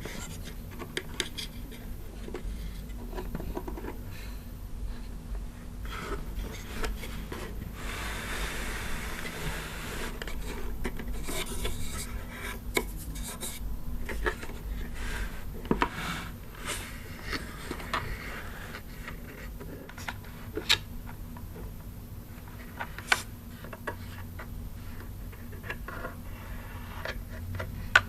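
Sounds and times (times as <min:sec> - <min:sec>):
plastic rubbing and scraping: 0:00.0 - 0:04.1, 0:05.8 - 0:21.7, 0:22.4 - 0:28.0.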